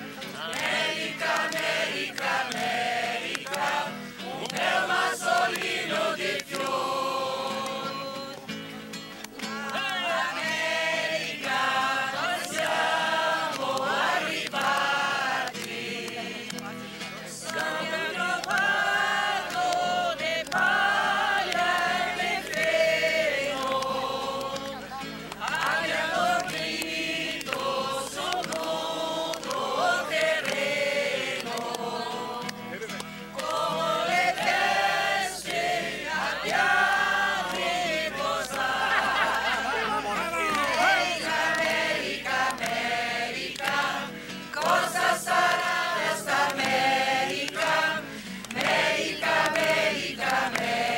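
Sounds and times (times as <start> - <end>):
choir singing: 0.0 - 8.4, 9.4 - 50.9.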